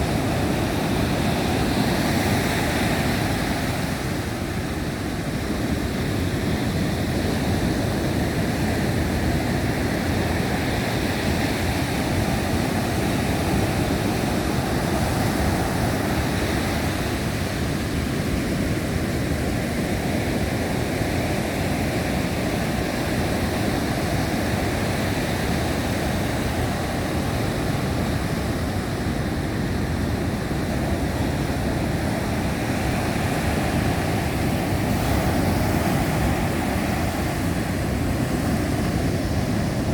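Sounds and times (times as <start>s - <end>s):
high wind: 0.0s - 39.9s.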